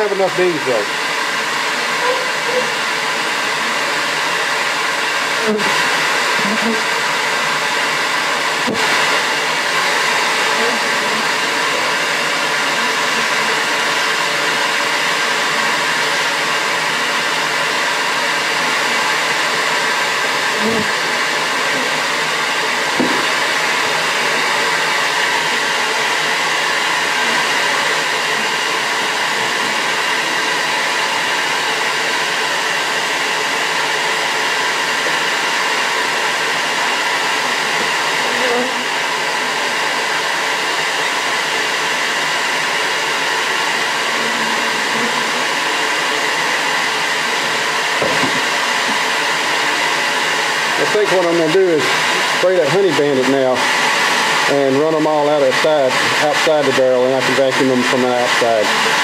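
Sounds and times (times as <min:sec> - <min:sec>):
vacuum motor suction whoosh: 0:00.0 - 0:59.0.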